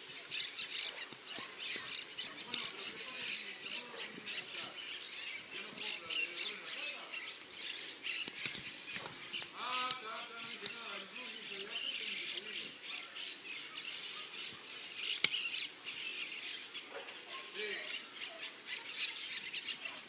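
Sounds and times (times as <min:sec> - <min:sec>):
birds chirping and squawking: 0:00.0 - 0:20.0.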